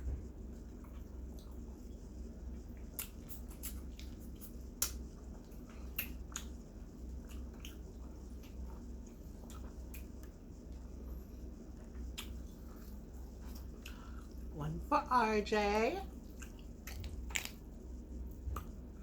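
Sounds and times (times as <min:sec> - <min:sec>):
wet chewing and lip-smacking: 0:00.6 - 0:14.5, 0:16.1 - 0:19.0.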